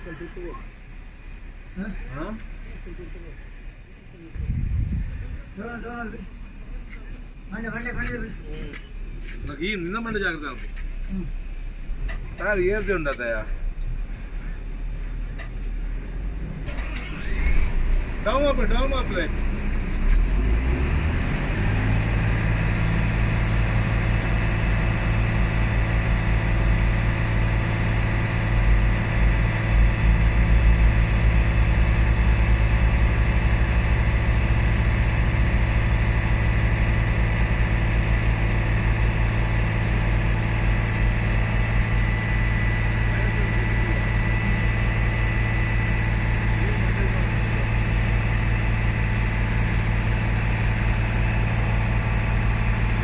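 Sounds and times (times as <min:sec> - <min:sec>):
diesel bus engine idling: 0:00.0 - 0:53.0.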